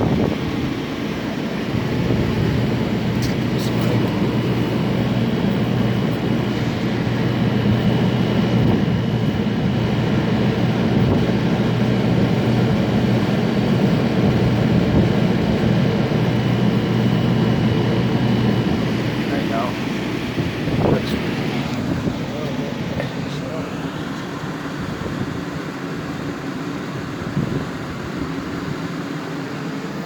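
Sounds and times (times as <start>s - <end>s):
air conditioner humming: 0.0s - 30.0s.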